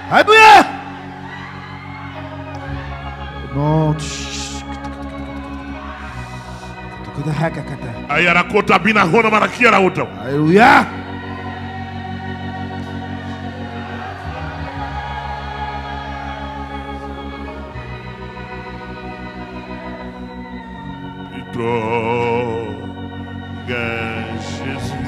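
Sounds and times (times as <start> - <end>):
electronic organ chords: 0.0 - 25.0
wavering organ note: 0.0 - 25.0.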